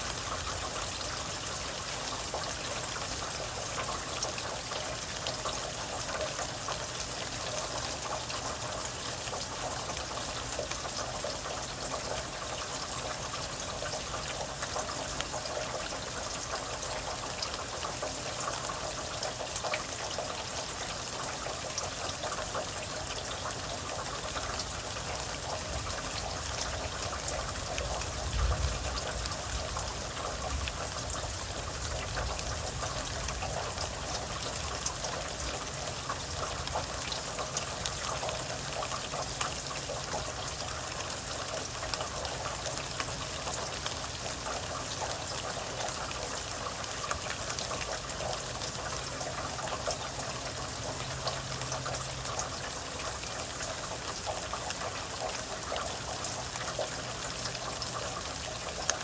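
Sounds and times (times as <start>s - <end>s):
rain falling: 0.0s - 59.0s
trickling running water: 0.0s - 59.0s.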